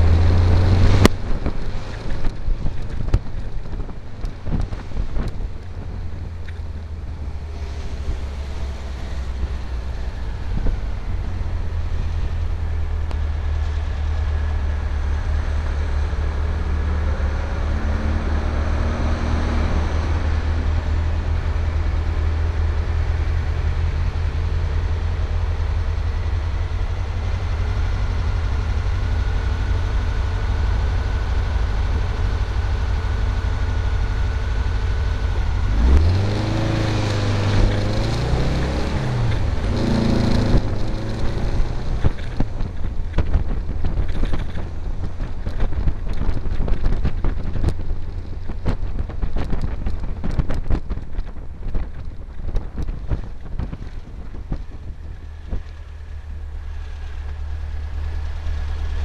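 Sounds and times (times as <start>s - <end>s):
buggy engine rumbling: 0.0s - 59.0s
road noise: 0.0s - 59.0s
wind: 0.0s - 59.0s.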